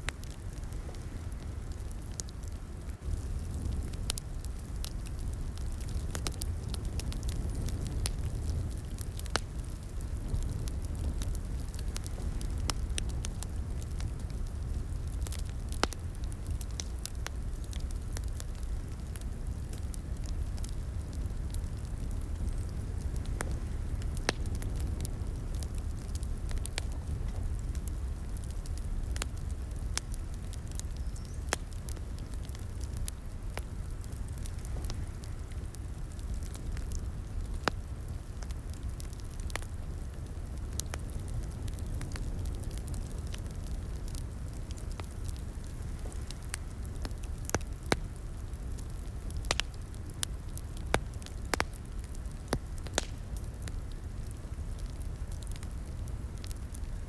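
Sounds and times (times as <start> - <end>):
wood fire crackling in a fireplace: 0.0 - 57.0.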